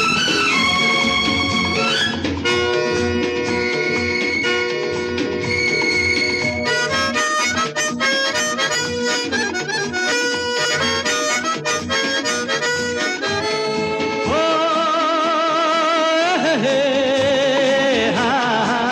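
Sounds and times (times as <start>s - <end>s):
reed instrument melody: 0.0s - 15.8s.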